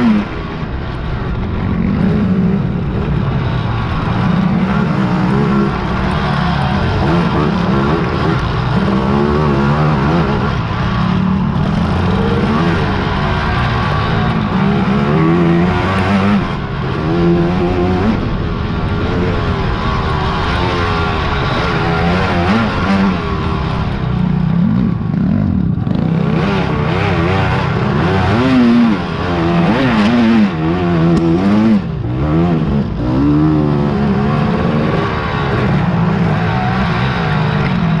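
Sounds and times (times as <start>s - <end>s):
racing quad engines revving: 0.0s - 38.0s.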